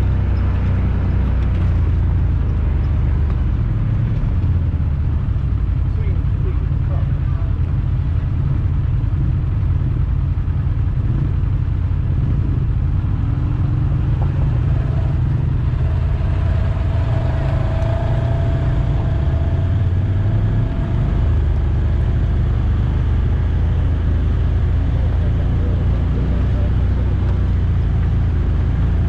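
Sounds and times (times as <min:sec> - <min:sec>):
off-road vehicle engines droning: 0:00.0 - 0:29.0.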